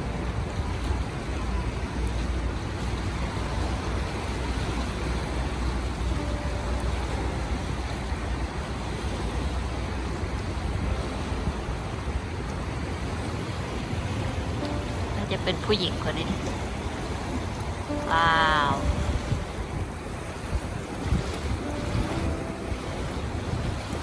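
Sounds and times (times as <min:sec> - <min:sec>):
rough water rushing: 0:00.0 - 0:24.0
wind rumbling on microphone: 0:00.0 - 0:24.0.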